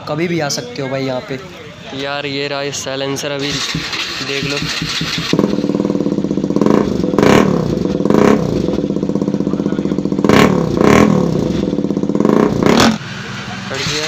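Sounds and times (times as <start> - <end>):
motorcycle engine idling and revving: 2.0 - 14.0.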